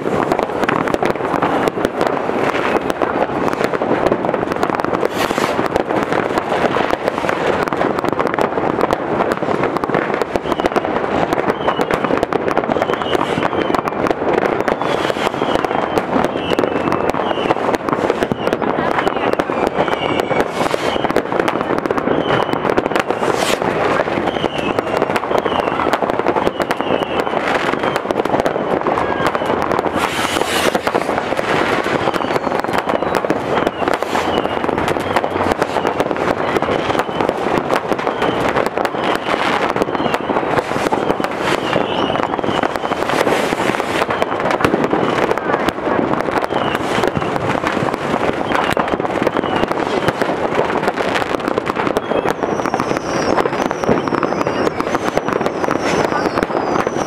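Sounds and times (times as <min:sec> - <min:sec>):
fireworks and firecrackers banging: 0:00.0 - 0:57.0.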